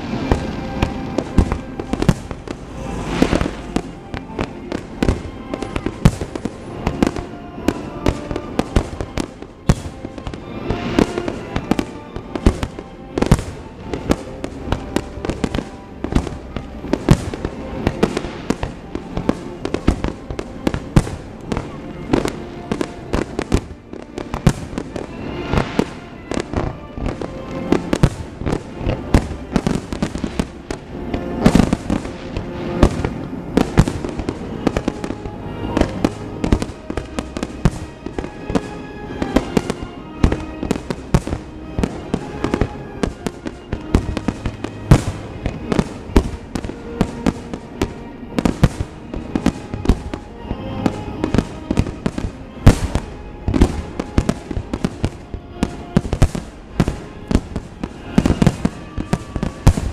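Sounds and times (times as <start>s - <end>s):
fireworks bangs: 0.0s - 59.9s
fireworks crackling: 0.0s - 59.9s
music with held notes: 0.0s - 59.9s.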